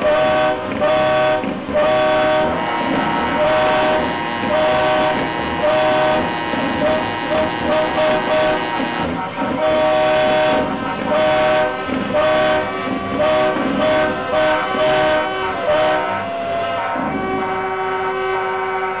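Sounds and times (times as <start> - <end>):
truck air horn blasts: 0.0 - 19.0.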